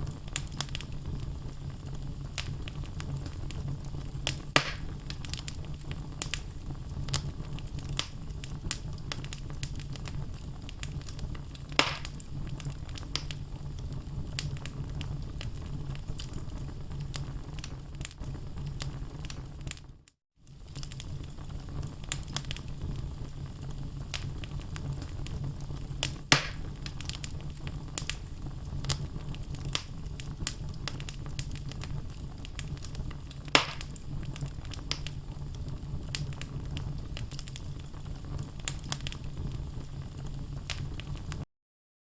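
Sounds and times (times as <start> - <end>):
burning log popping: 0.0 - 41.4
fire crackling: 0.0 - 41.4
fire rumbling: 0.0 - 41.4.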